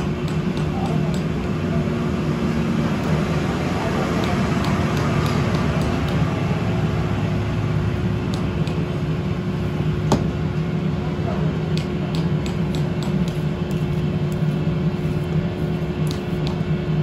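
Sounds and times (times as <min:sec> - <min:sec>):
constant hum: 0:00.0 - 0:17.0
machine drone: 0:00.0 - 0:17.0.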